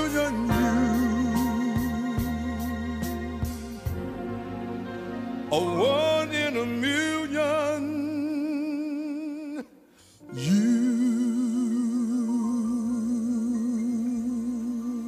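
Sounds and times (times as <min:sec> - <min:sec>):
man singing with vibrato: 0:00.0 - 0:03.9, 0:05.5 - 0:15.0.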